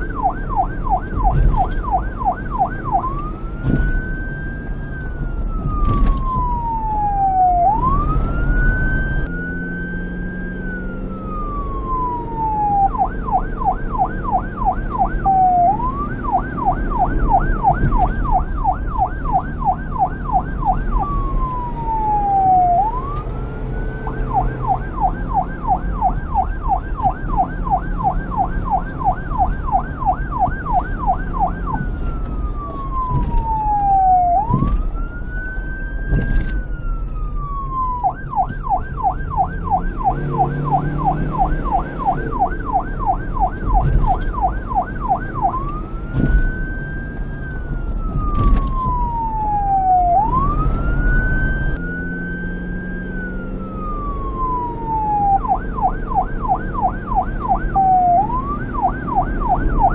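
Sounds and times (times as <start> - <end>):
police siren yelp and wail: 0.0 - 59.9.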